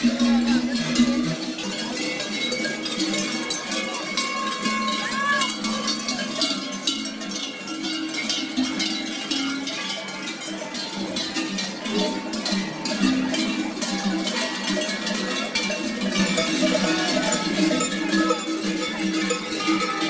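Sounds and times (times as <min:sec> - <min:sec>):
cowbells clanging: 0:00.0 - 0:20.0.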